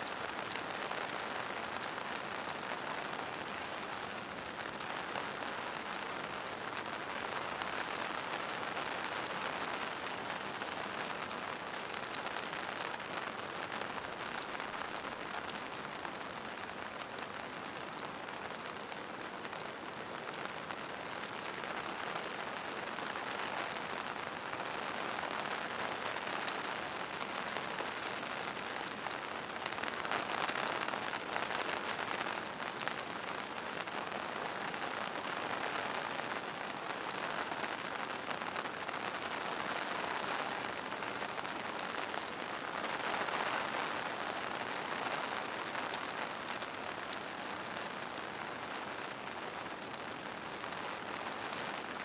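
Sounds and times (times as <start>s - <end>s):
rain on leaves and rocks: 0.0s - 52.0s.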